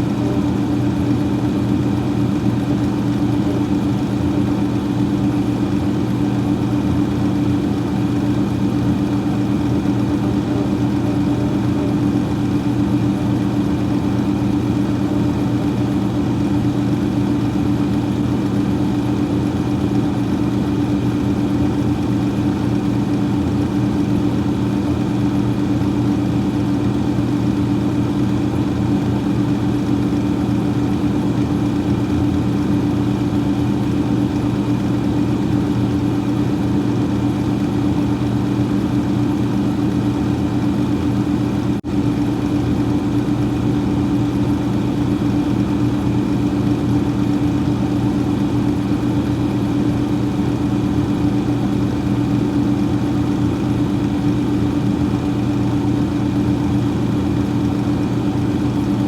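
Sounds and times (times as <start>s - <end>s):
freezer fan humming: 0.0s - 59.0s.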